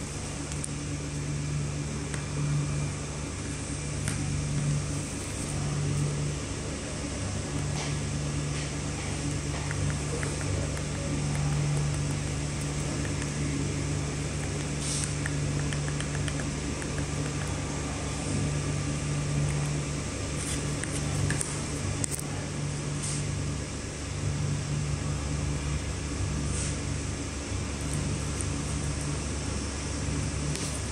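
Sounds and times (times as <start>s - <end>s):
electric fan hum: 0.0s - 30.9s.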